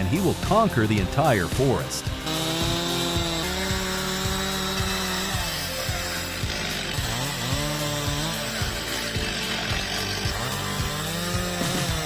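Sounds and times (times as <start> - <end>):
background music with steady beat: 0.0 - 12.0
chainsaw cutting wood: 0.0 - 12.0.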